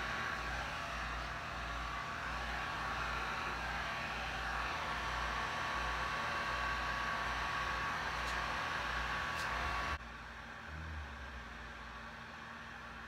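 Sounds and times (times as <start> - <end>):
blower fan rushing air: 0.0 - 13.0.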